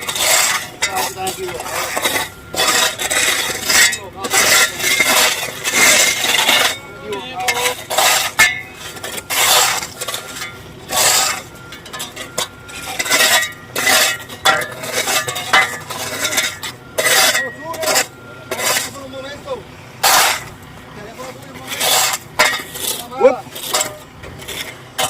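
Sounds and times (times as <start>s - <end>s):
metal tool scraping and clinking: 0.0s - 19.0s, 20.0s - 20.5s, 21.6s - 25.0s.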